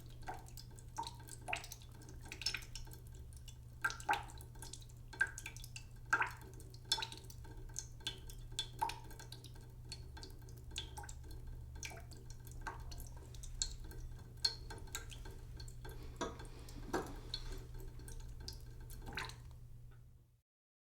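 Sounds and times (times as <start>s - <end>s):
water dripping into pot: 0.0s - 20.1s.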